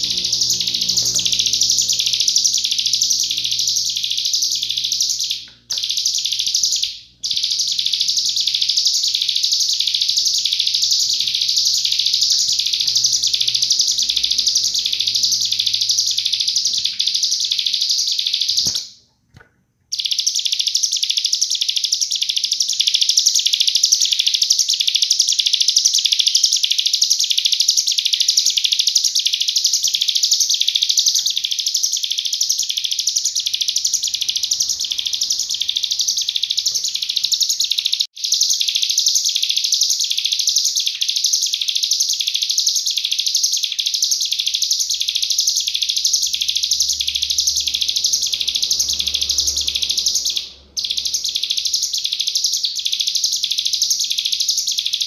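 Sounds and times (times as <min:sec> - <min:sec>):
bird singing rapid high notes: 0:00.0 - 0:18.9, 0:19.9 - 0:55.0.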